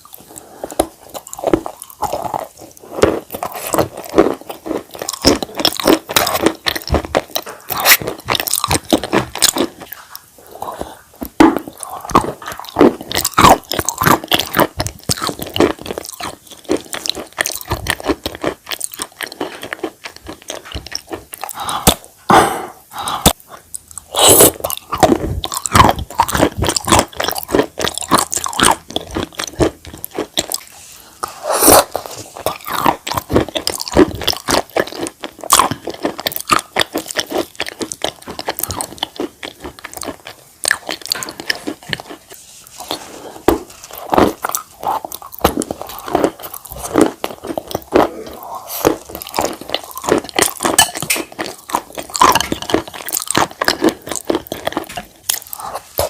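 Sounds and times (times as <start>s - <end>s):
chewing clay and chalk: 0.0s - 22.0s, 23.5s - 56.0s.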